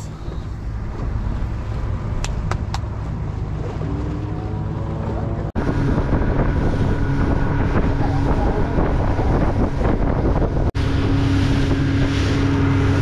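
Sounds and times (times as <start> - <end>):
outboard motor running: 0.0 - 13.0
water rushing past hull: 0.0 - 13.0
wind buffeting microphone: 0.2 - 13.0.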